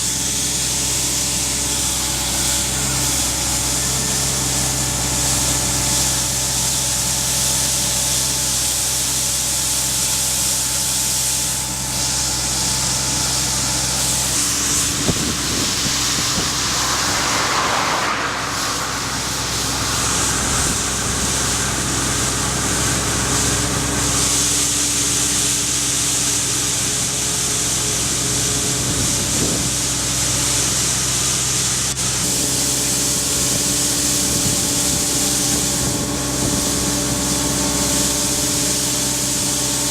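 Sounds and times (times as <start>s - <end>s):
excavator engine running: 0.0s - 10.0s, 10.8s - 39.9s
sweeper brush hissing on road: 0.0s - 39.9s.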